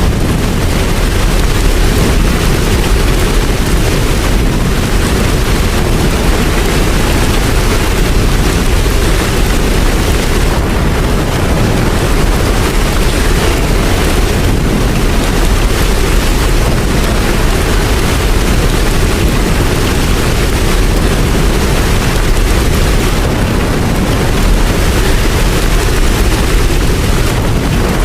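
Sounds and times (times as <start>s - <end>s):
deep low rumble: 0.0s - 28.0s
heavy rain: 0.0s - 28.0s.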